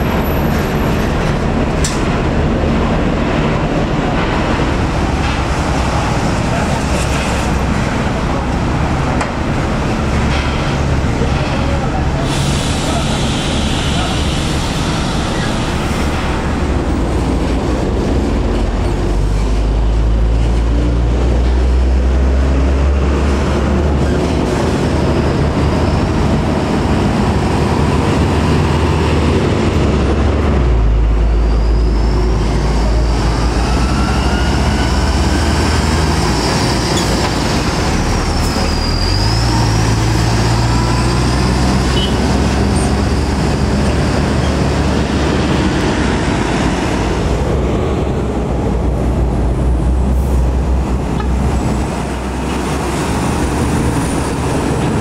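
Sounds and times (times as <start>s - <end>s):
diesel trucks passing: 0.0s - 55.0s.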